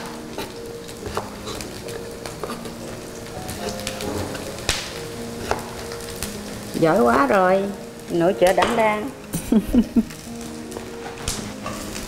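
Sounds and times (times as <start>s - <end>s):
food sizzling in a pan: 0.0s - 12.0s
soft background music: 0.0s - 12.0s.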